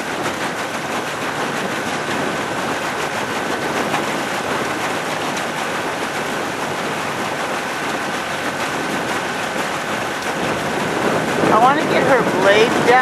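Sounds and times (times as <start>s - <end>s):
outboard motor running: 0.0s - 13.0s
water rushing along hull: 0.0s - 13.0s.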